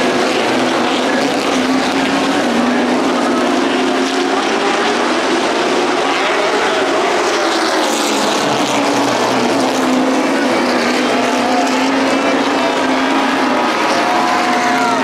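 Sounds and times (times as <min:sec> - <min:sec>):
stock car engines racing: 0:00.0 - 0:15.0.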